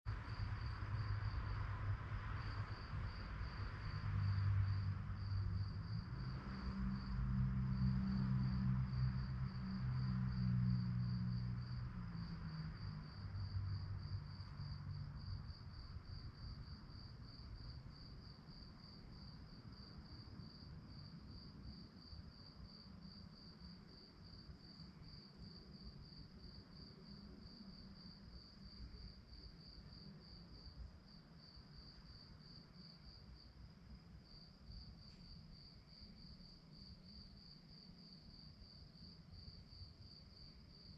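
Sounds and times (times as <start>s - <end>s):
crickets chirping: 0.1s - 40.9s.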